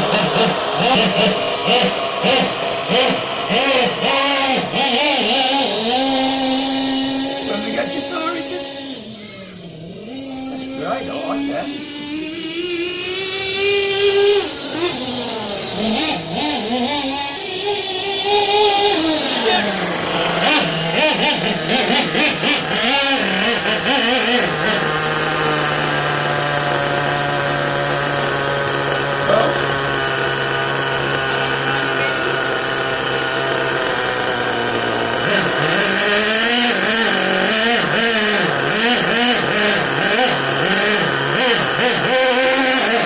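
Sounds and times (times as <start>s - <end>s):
small nitro engine revving: 0.0s - 43.0s.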